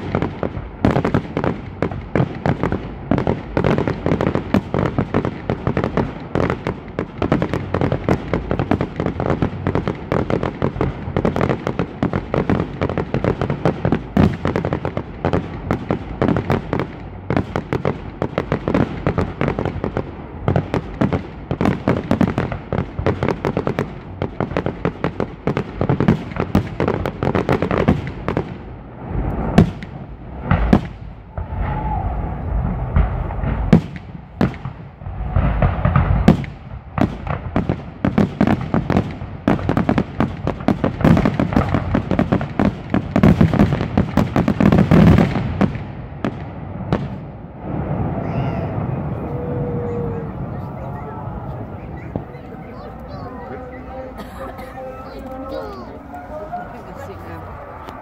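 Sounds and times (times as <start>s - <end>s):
fireworks bursting and crackling: 0.0s - 58.0s
heavy fireworks booms: 0.0s - 58.0s.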